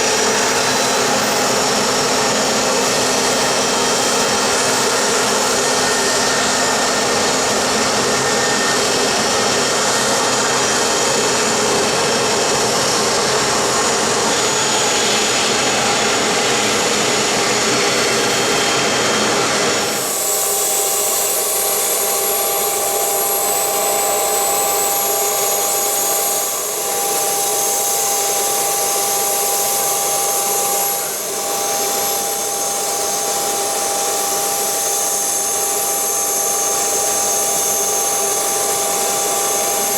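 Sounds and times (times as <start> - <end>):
jet engines rushing whine: 0.0 - 39.9
jet engines thin high whine: 0.0 - 39.9.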